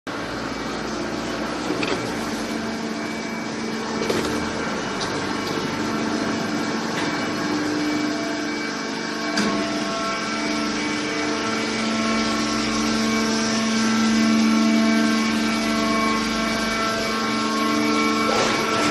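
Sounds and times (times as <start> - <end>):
baling press machine hum: 0.1 - 18.9.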